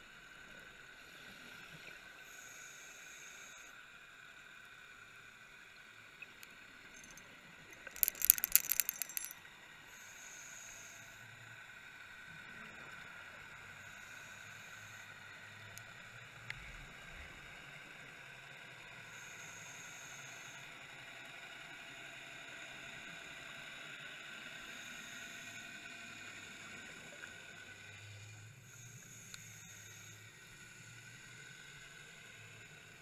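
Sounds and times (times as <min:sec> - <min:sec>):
faint steady tones: 0:00.0 - 0:33.0
underwater hiss and hum: 0:00.0 - 0:33.0.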